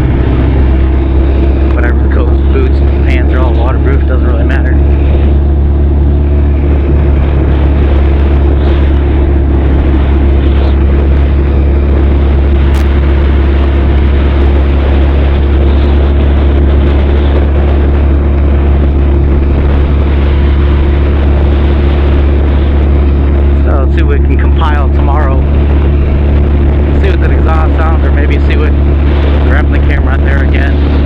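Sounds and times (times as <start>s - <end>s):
motorcycle engine cruising: 0.0s - 31.0s
wind and road noise: 0.0s - 31.0s.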